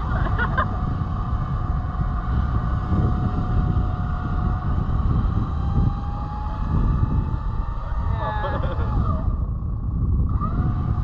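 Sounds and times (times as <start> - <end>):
electric winch motor whining: 0.0 - 11.0
low rumble: 0.0 - 11.0.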